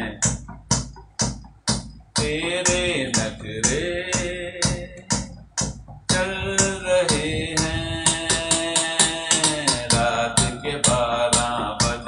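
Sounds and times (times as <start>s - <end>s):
quick drum beat: 0.0s - 12.0s.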